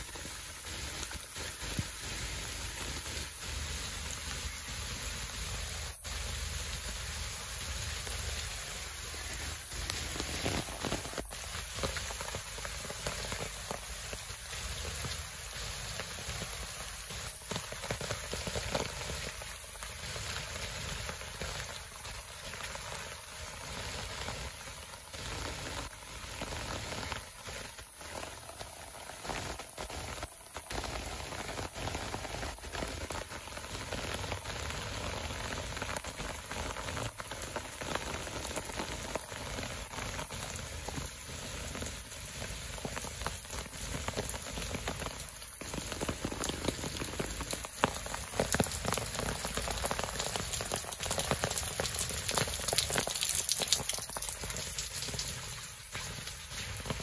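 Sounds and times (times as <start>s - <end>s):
close raindrop hits: 0.0s - 57.0s
heavy rain on leaves: 0.0s - 57.0s.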